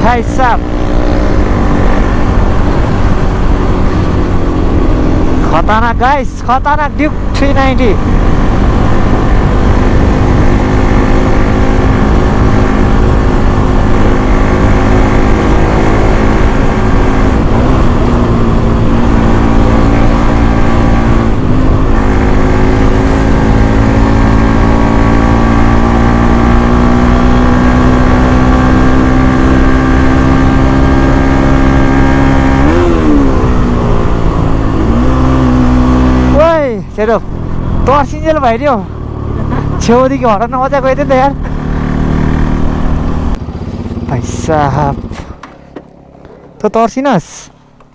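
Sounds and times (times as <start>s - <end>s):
motorcycle engine revving high: 0.0s - 47.9s.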